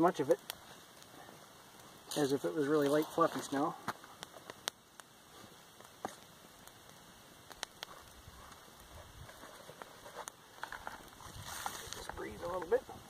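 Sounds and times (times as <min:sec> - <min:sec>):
campfire crackling and popping: 0:00.0 - 0:13.0
faint fire hiss: 0:00.0 - 0:13.0.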